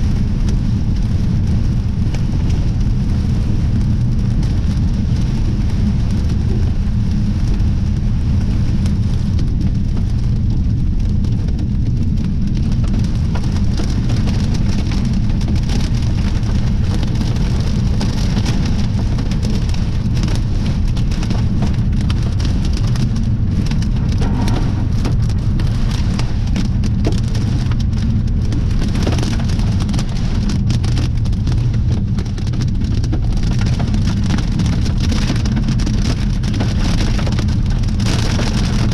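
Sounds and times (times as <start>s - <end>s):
heavy rain: 0.0s - 38.9s
wind on microphone: 0.0s - 38.9s.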